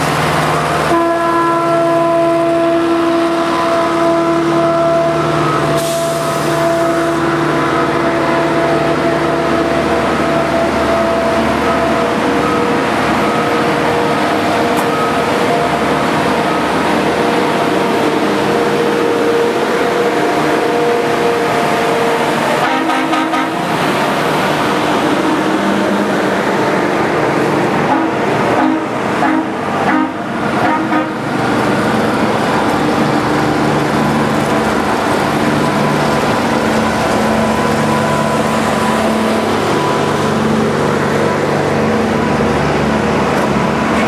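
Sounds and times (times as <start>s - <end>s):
diesel engines droning: 0.0s - 44.0s
rail machines rolling on tracks: 0.0s - 44.0s.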